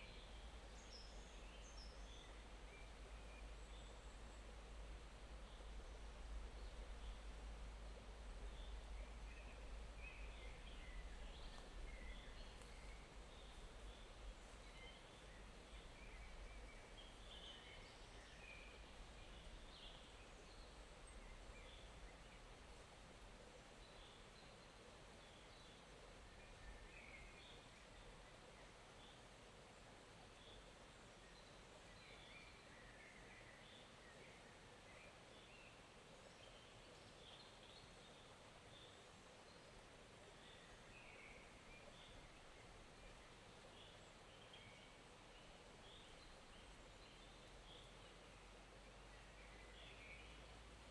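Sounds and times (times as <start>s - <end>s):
forest stream flowing: 0.0s - 50.9s.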